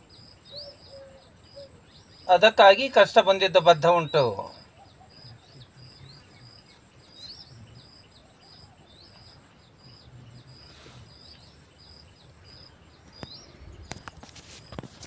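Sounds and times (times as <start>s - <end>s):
bird chirping: 0.0s - 15.0s
faint outdoor background noise: 0.0s - 15.0s.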